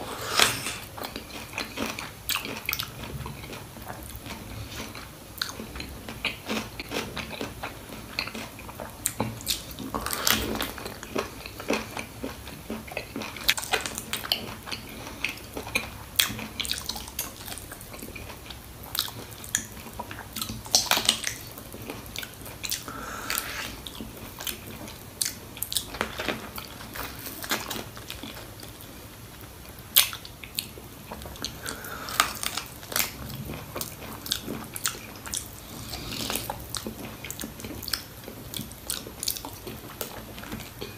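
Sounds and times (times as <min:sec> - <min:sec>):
person chewing: 0:00.0 - 0:28.9, 0:29.9 - 0:40.9.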